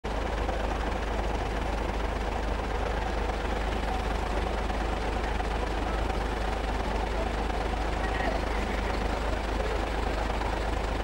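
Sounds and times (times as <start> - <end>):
lorry engine rumbling: 0.3 - 11.0.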